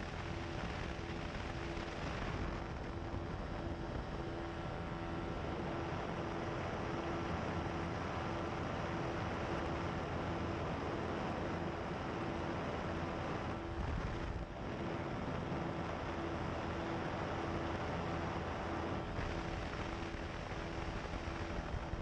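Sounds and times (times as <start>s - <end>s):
ultralight engine and propeller droning: 0.0s - 22.0s
wind rush over microphone: 0.0s - 22.0s.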